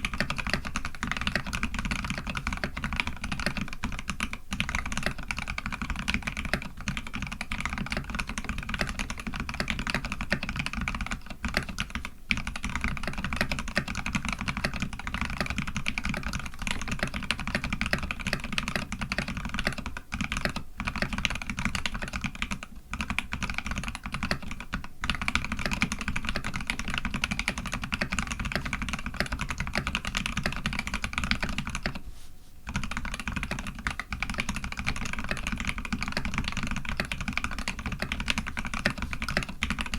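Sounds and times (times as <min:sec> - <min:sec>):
fast mechanical keyboard typing: 0:00.0 - 0:32.0, 0:32.7 - 0:39.9.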